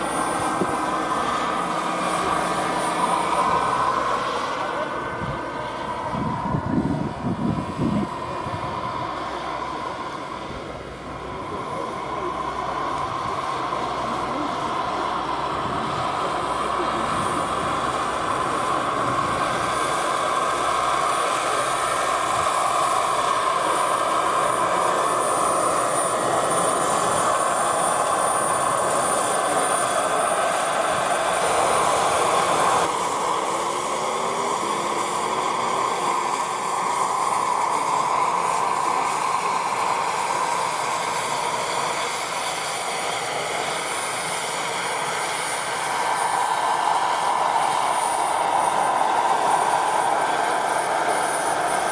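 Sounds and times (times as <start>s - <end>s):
model helicopter whining: 0.0s - 51.9s.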